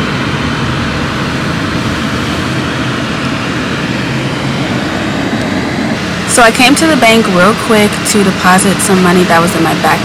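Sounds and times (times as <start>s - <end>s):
car air conditioning blower: 0.0s - 10.0s.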